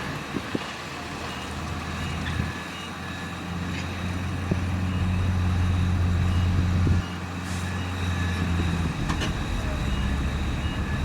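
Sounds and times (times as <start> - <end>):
heavy diesel machinery running: 0.0 - 11.0
reversing alarm beeping: 1.1 - 11.0.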